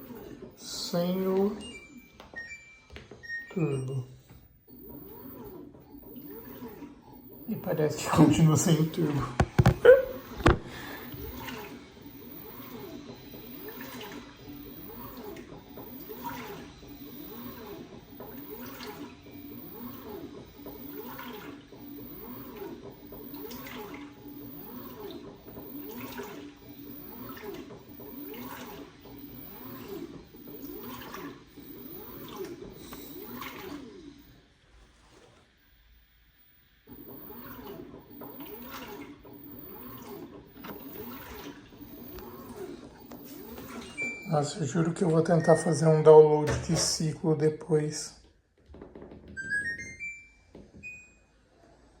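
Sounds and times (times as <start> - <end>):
washing machine sloshing water: 0.0 - 35.4, 36.8 - 47.4.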